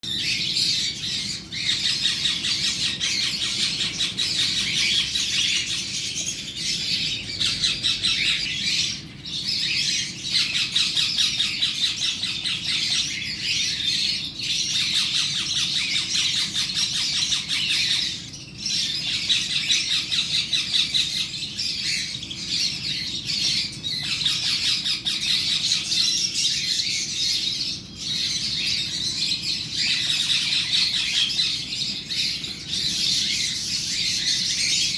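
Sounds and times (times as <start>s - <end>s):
parrot squawking: 0.2s - 34.9s.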